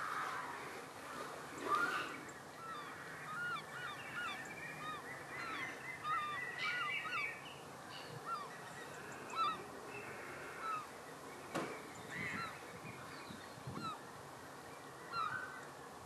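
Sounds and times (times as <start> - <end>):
flock of birds calling: 0.0 - 15.7.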